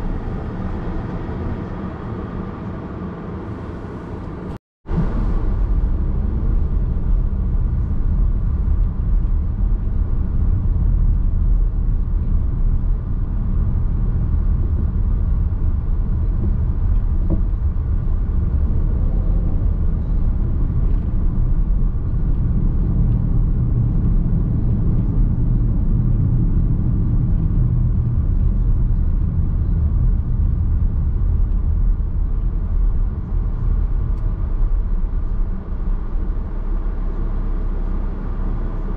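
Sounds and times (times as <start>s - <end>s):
road and tyre rumble in car: 0.0s - 38.9s.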